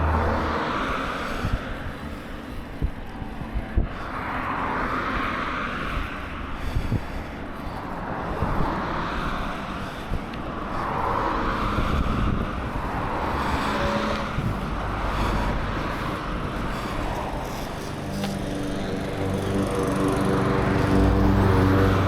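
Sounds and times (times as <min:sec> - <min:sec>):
cars passing: 0:00.0 - 0:22.0
wind buffeting microphone: 0:00.0 - 0:22.0.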